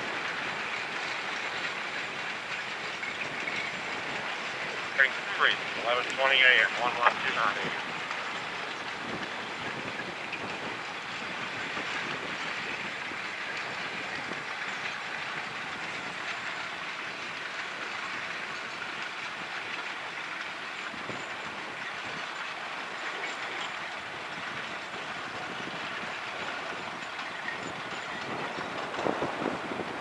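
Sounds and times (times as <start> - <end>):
distant freight train rolling: 0.0 - 30.0.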